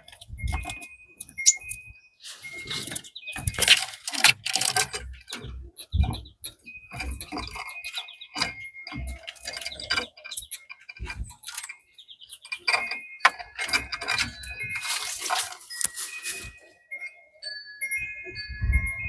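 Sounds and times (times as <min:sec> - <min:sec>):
quick clicks and rustles: 0:00.0 - 0:16.7
small birds chirping: 0:00.0 - 0:19.0.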